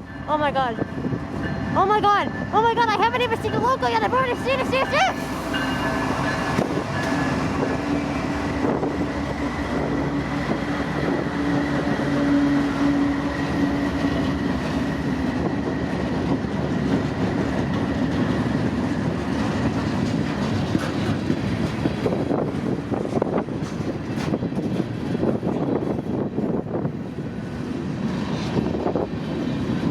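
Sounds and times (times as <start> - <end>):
freight train rumbling past: 0.0 - 29.9.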